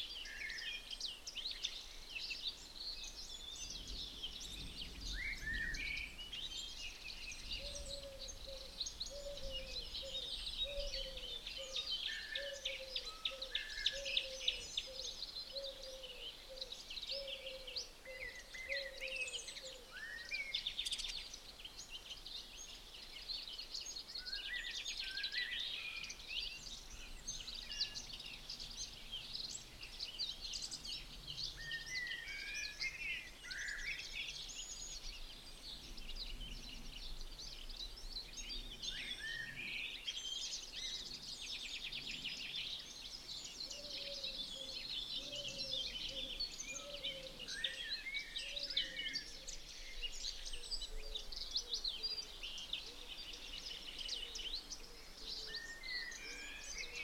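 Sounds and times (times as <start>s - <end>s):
songbirds chorus: 0.0s - 57.0s.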